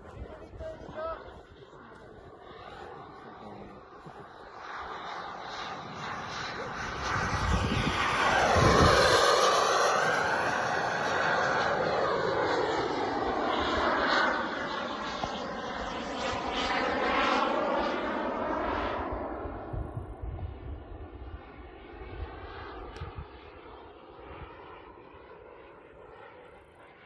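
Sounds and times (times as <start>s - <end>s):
model jet flying past: 0.0s - 27.0s.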